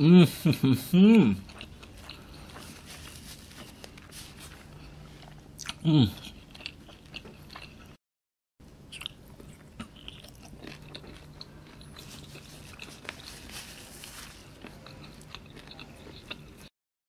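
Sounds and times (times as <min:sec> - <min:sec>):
person chewing food: 0:01.1 - 0:08.0, 0:08.6 - 0:16.7.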